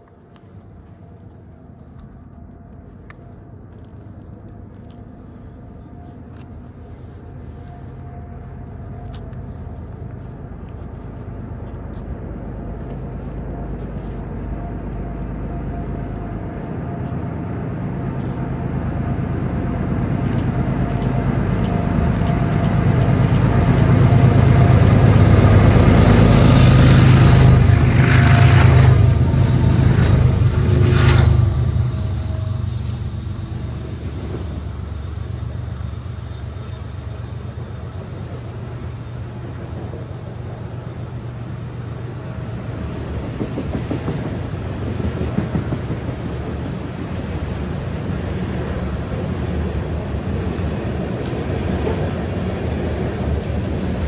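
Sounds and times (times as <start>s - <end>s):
diesel locomotive engine drone: 0.0s - 54.0s
rail clicks and wheel noise: 0.0s - 54.0s.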